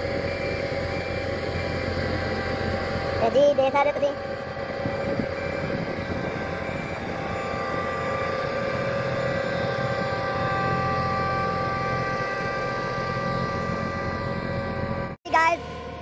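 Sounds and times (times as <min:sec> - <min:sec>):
diesel engine running: 0:00.0 - 0:16.0
steady high whine: 0:00.0 - 0:16.0.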